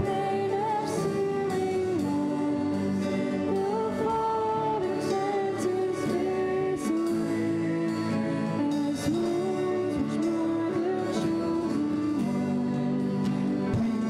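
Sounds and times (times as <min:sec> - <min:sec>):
acoustic guitar: 0:00.0 - 0:14.0
person singing slow melody: 0:00.0 - 0:14.0
violin: 0:00.0 - 0:14.0.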